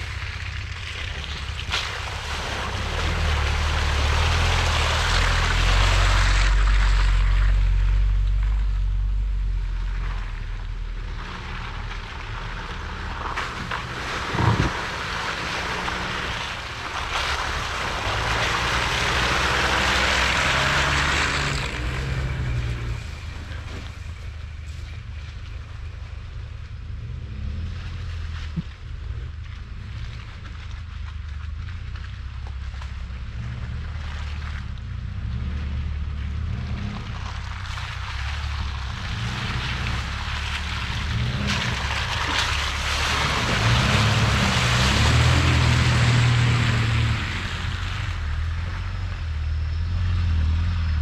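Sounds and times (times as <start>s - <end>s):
engines working under load: 0.0s - 51.0s
rushing of tyres and water: 0.0s - 51.0s.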